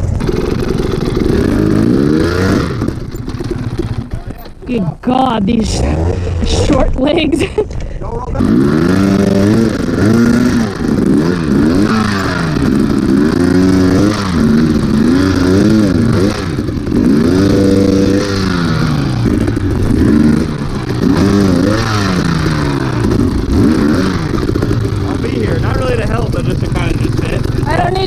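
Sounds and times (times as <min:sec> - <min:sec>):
dirt bike engine revving: 0:00.0 - 0:07.2, 0:08.3 - 0:28.0.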